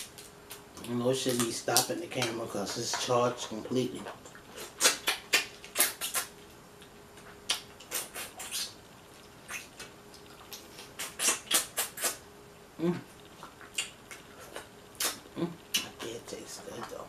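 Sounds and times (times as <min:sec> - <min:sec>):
mouth sounds of eating: 0:00.5 - 0:06.4, 0:07.2 - 0:08.8, 0:09.4 - 0:17.0.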